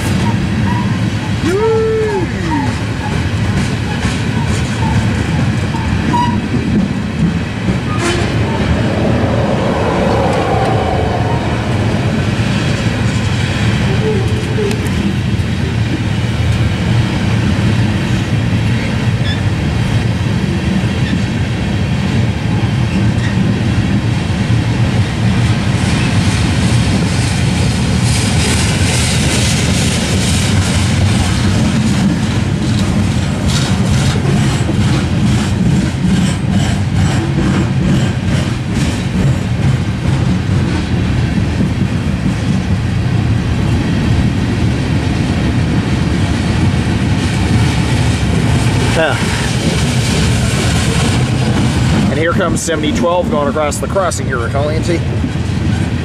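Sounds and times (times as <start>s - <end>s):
diesel train rumble: 0.0s - 56.0s.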